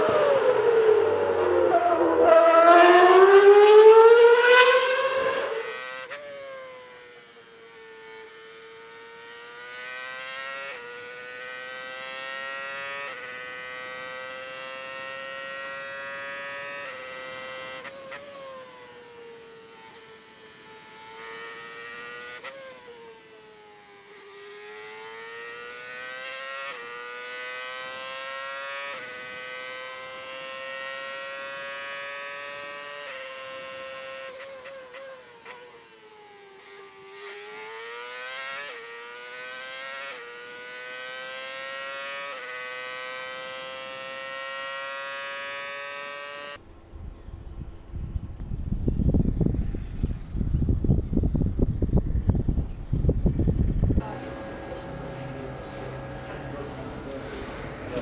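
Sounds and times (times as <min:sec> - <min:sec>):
racing car engine whine: 0:00.0 - 0:58.0.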